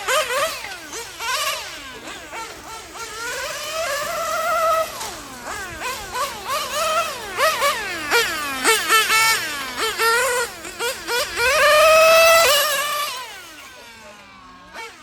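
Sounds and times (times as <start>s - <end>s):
rc car engine revving: 0.0s - 15.0s.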